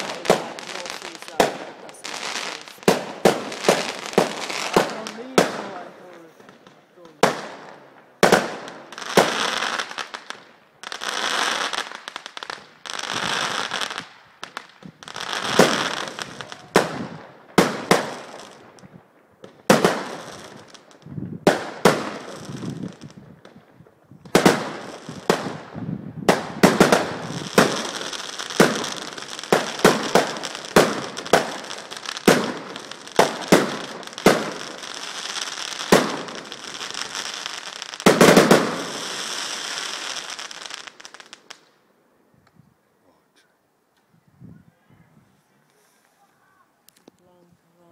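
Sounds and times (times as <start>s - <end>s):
firework bangs: 0.0s - 41.7s
crackling hiss: 0.0s - 44.2s.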